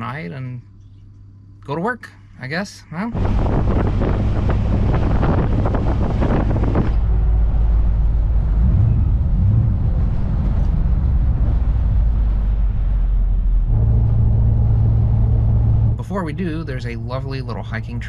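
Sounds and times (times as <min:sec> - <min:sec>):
engine and road drone: 0:00.0 - 0:18.0.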